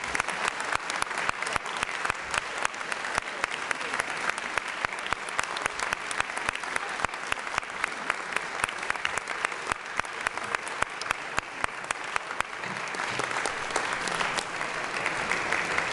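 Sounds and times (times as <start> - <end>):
audience applauding: 0.0 - 15.9
nearby person clapping: 0.0 - 15.9.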